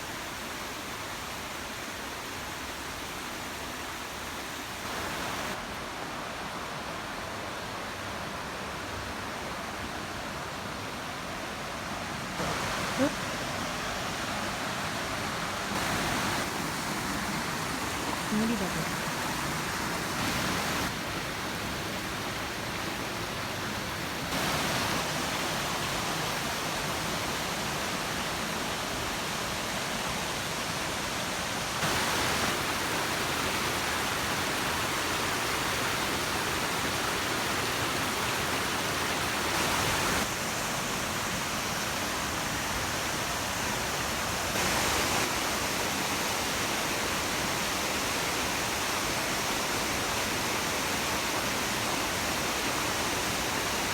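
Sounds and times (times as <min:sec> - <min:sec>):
waterfall rushing: 0:00.0 - 0:06.6, 0:10.6 - 0:53.9.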